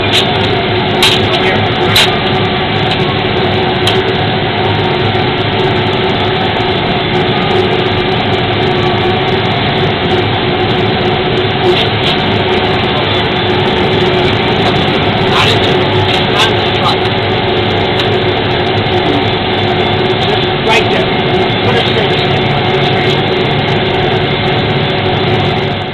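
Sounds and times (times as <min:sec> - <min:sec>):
steady hum: 0:00.0 - 0:25.9
truck engine and pump drone: 0:00.0 - 0:25.9.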